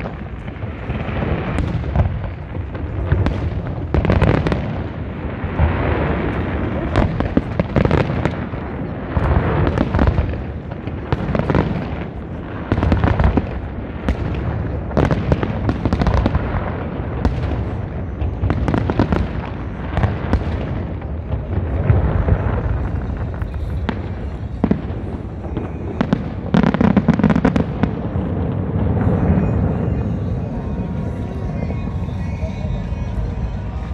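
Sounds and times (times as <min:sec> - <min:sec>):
firework crackling: 0:00.0 - 0:33.9.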